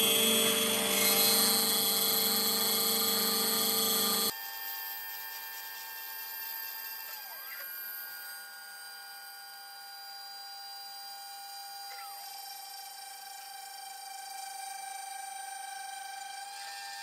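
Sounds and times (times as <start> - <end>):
spindle whining while milling metal: 0.0 - 17.0.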